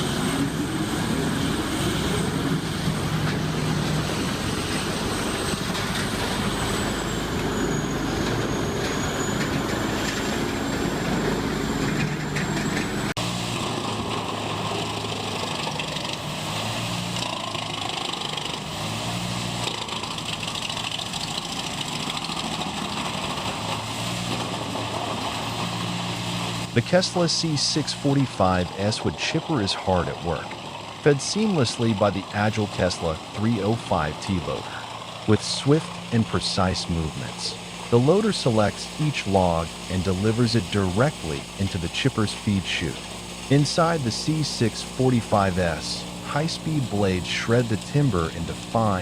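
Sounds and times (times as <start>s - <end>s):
chipping machine engine pulsing: 0.0s - 49.0s
high whine: 0.0s - 49.0s
wood grinder running: 0.0s - 49.0s.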